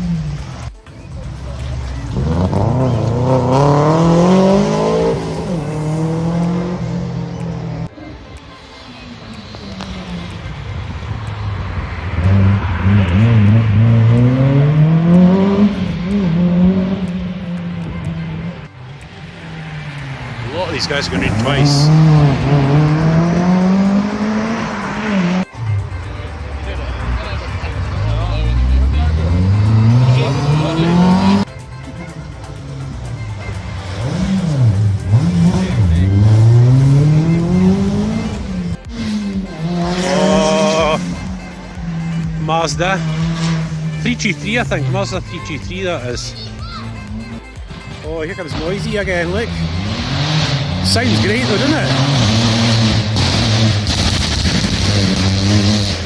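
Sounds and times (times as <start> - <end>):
rally car engine accelerating: 0.0 - 7.9, 9.3 - 45.6, 47.0 - 56.0.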